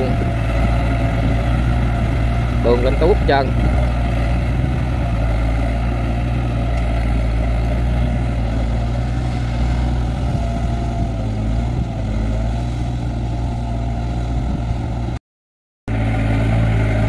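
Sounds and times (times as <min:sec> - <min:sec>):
tiller engine running under load: 0:00.0 - 0:15.2, 0:15.9 - 0:17.0.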